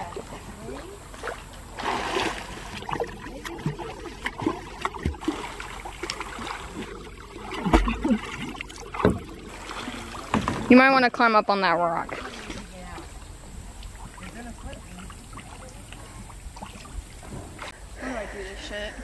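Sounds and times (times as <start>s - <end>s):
water splashing from swimming: 0.0s - 18.1s.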